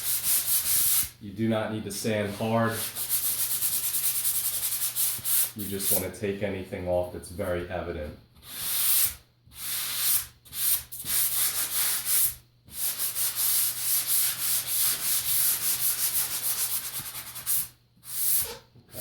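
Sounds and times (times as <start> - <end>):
sanding sponge on ceiling patch: 0.0 - 1.1, 2.0 - 6.1, 8.4 - 19.0.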